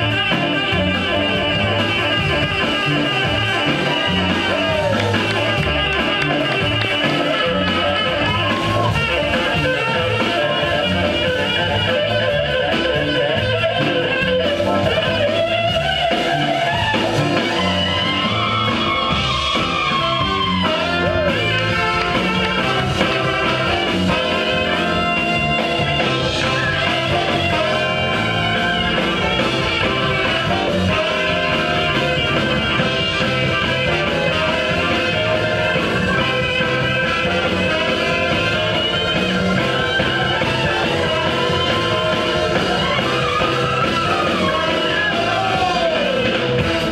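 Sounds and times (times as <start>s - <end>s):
band playing: 0.0s - 46.9s
guitar: 0.0s - 46.9s.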